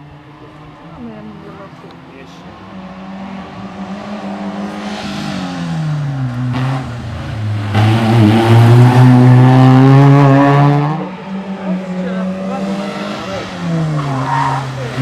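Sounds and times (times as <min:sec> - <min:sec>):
racing car engine passing: 0:00.4 - 0:15.0.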